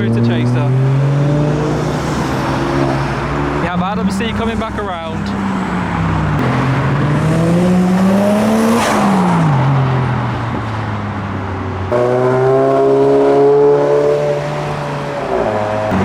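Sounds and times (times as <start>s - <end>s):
car engine steady note: 0.0s - 16.0s
car accelerating past: 0.2s - 3.7s, 5.2s - 16.0s.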